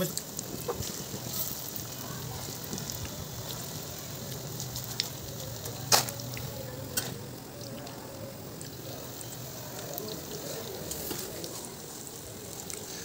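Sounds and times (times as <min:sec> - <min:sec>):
pakoras frying in hot oil: 0:00.0 - 0:13.0.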